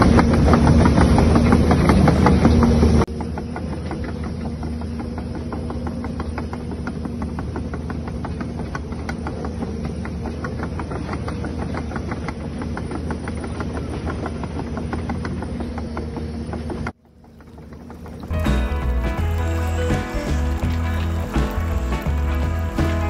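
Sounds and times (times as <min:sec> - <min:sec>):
rapid clicking: 0:00.0 - 0:23.0.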